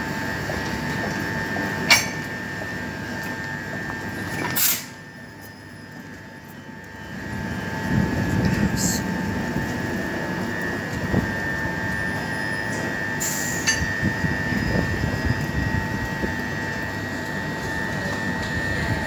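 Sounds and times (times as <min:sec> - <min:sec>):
electric train whine: 0:00.0 - 0:19.0.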